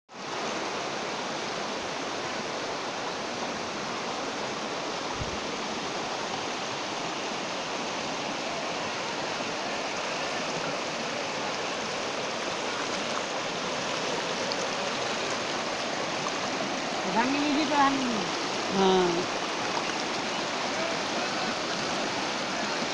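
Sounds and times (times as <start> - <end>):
floodwater rushing: 0.1 - 22.9.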